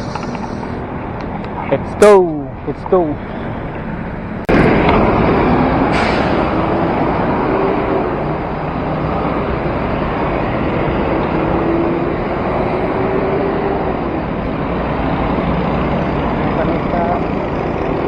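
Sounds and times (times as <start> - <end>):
road traffic: 0.0 - 18.0
vehicle engine hum: 0.0 - 18.0.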